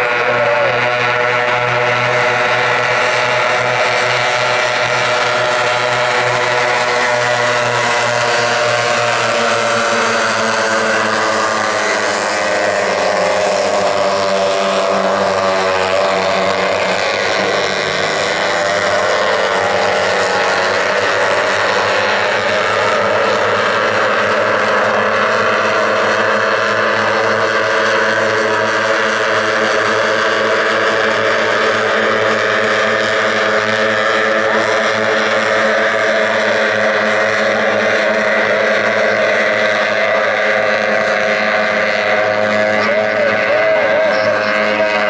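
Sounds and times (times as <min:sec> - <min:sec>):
racing outboard engines droning: 0:00.0 - 0:45.0.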